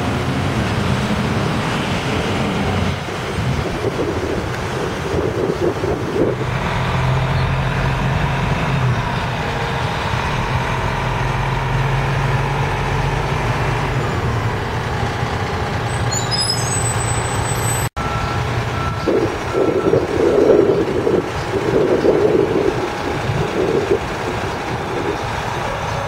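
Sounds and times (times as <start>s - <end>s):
fire truck diesel engine drone: 0.0s - 26.0s.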